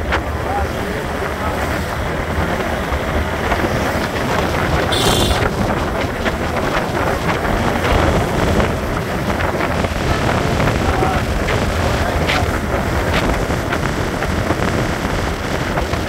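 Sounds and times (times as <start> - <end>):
motorcycle engine: 0.0 - 16.0
wind rushing over microphone: 0.0 - 16.0.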